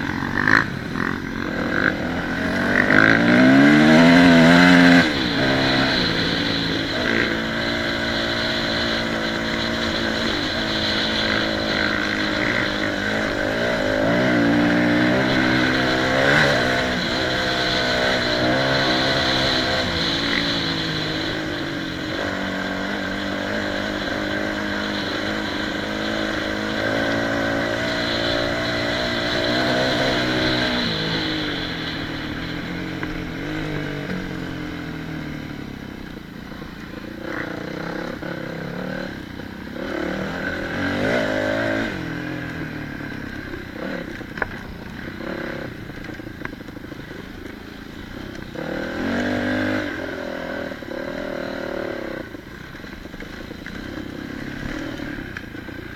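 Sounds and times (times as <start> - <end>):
off-road motorcycle engine: 0.0 - 55.9.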